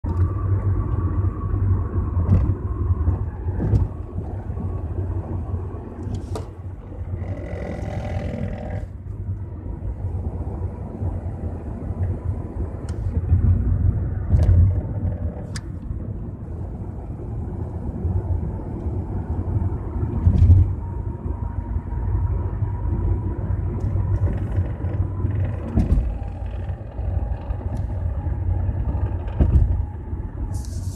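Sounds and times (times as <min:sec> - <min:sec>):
car road rumble: 0:00.0 - 0:30.9.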